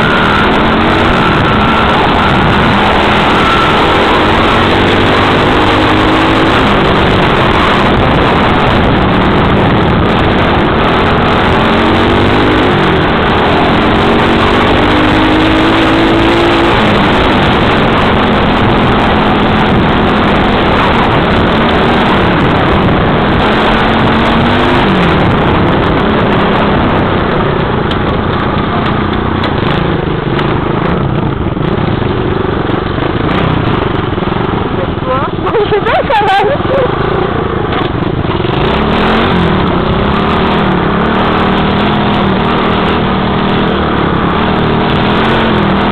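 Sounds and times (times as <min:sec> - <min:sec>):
dirt bike engine revving: 0:00.0 - 0:45.9
wind rushing: 0:00.0 - 0:45.9.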